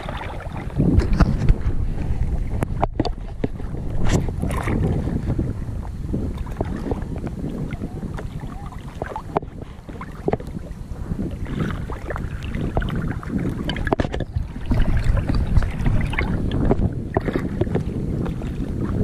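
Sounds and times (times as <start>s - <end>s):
small waves lapping and splashing: 0.0s - 19.0s
wind rumbling on microphone: 0.0s - 19.0s.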